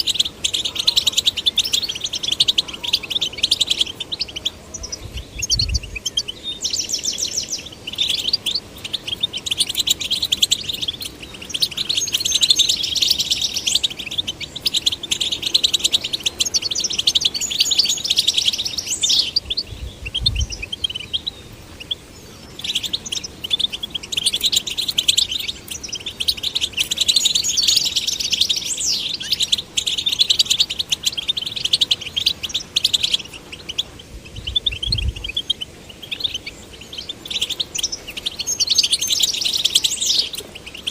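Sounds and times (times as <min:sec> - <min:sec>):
finch twittering song: 0:00.0 - 0:40.9.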